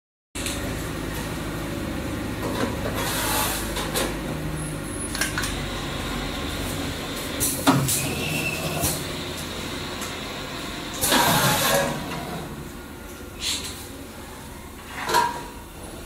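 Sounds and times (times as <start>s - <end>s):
printing press humming: 0.4s - 14.9s.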